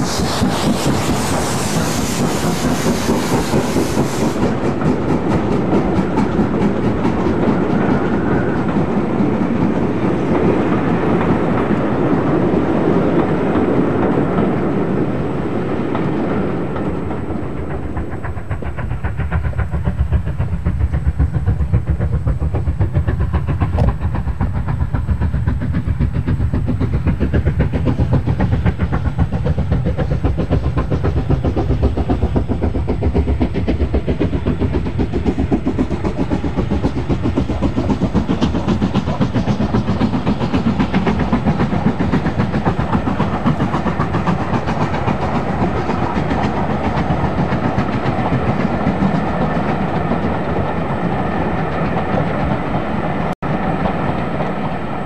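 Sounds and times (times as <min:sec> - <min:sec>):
steam locomotive chuffing: 0:00.0 - 0:55.0
train running on rails: 0:00.0 - 0:55.0.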